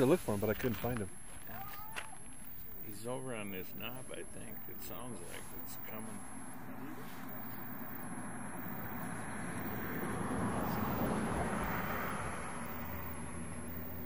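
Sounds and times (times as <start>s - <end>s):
steady low hum: 0.0s - 14.0s
vehicle passing road noise: 2.5s - 14.0s.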